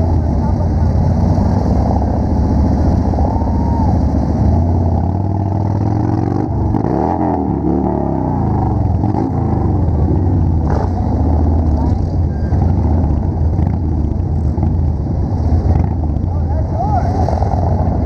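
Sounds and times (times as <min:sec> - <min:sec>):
motorcycle engines revving: 0:00.0 - 0:18.0
motorcycle engines rumbling: 0:00.0 - 0:18.0.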